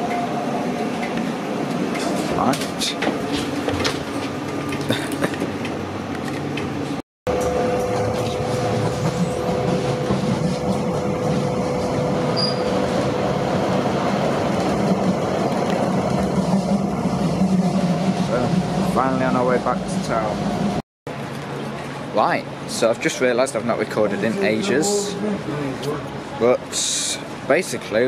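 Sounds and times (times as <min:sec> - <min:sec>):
tram wheels rumbling on rail: 0:00.0 - 0:28.0.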